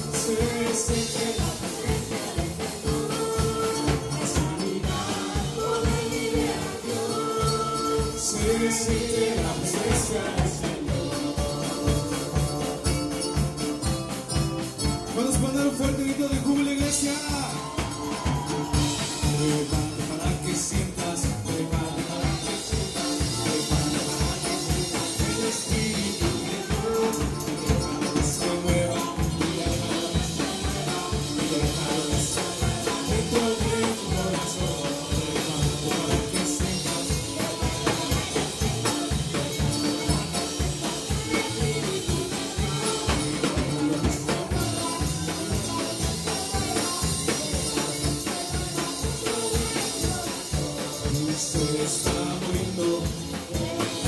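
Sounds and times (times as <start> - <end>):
band playing upbeat song: 0.0 - 54.0
voices singing: 0.0 - 54.0.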